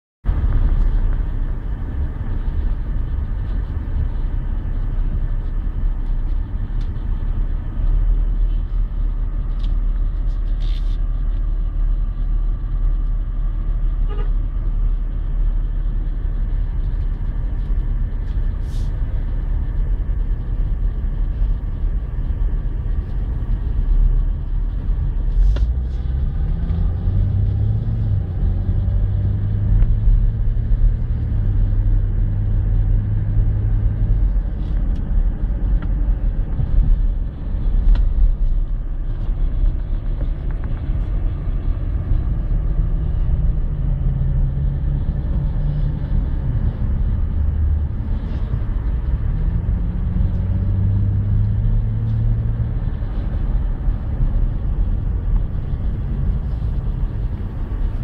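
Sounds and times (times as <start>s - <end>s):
car engine and road rumble: 0.2s - 58.0s.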